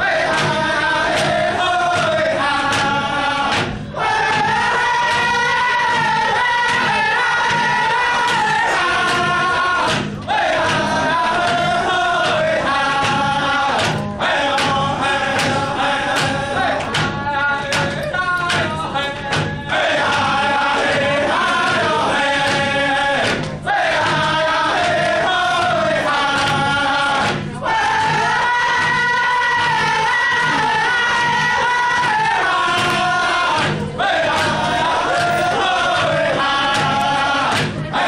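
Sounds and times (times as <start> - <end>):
group singing: 0.0 - 38.0
hand drums beating: 0.2 - 38.0.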